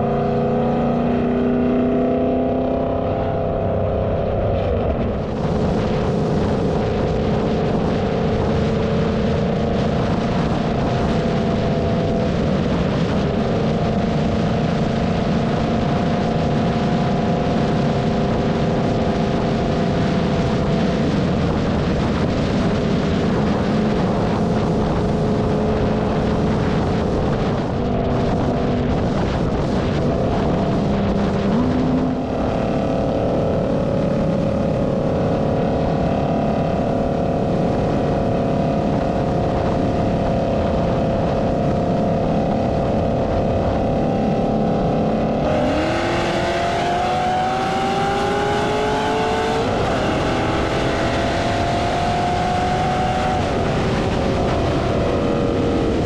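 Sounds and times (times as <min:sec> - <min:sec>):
car engine droning: 0:00.0 - 0:56.0
wind rushing over microphone: 0:00.0 - 0:56.0.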